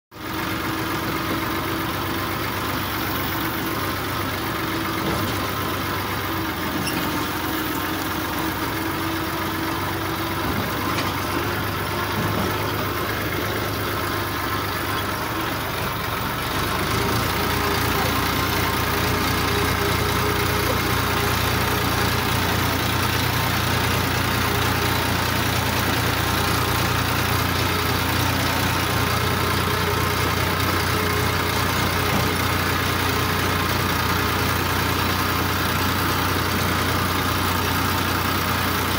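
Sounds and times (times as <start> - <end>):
tractor diesel engine running: 0.1 - 38.9.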